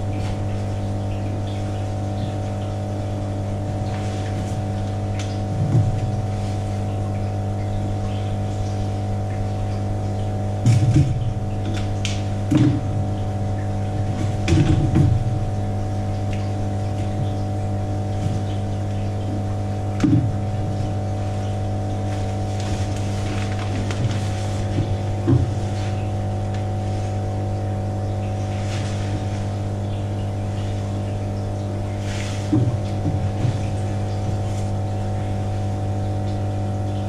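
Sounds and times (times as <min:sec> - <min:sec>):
mechanical hum with drone: 0:00.0 - 0:37.0.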